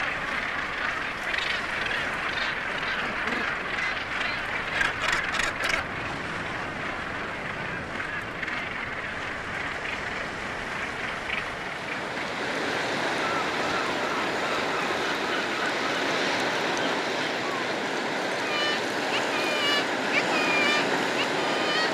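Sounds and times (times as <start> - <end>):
gannets calling: 0.0 - 21.9
surf washing: 0.0 - 21.9
wind: 0.0 - 21.9.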